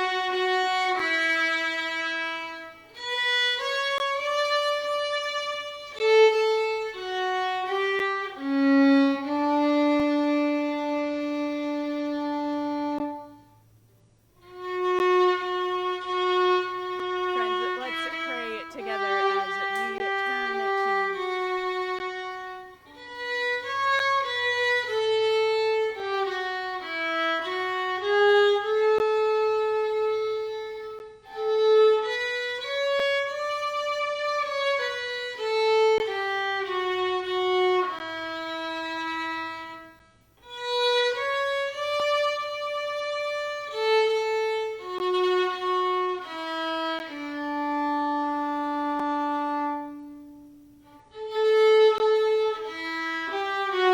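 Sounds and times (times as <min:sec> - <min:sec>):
solo violin melody: 0:00.0 - 0:13.7, 0:14.4 - 0:53.9.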